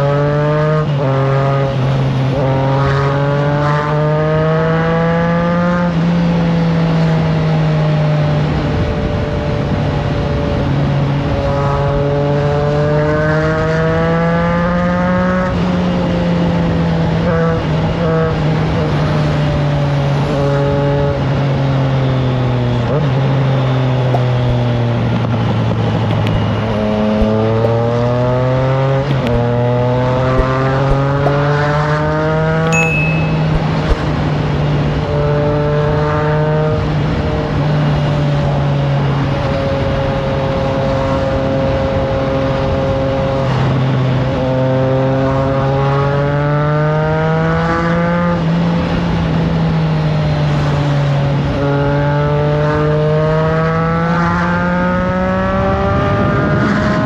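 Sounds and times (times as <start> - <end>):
motorcycle engine accelerating: 0.0 - 57.0
wind noise on microphone: 7.4 - 45.8, 48.2 - 57.0.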